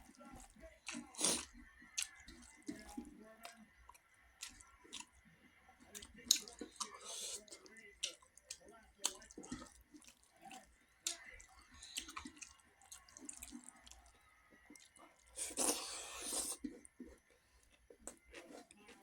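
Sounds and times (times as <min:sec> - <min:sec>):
wet chewing sounds: 0:00.0 - 0:19.0.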